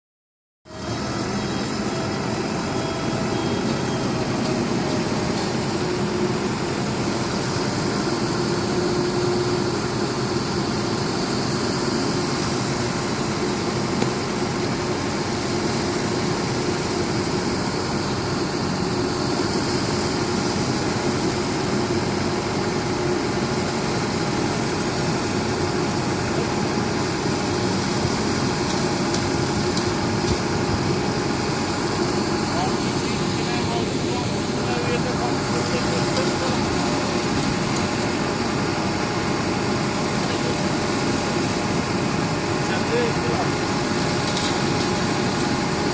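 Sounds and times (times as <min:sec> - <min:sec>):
diesel engine running steadily: 0:00.7 - 0:45.9.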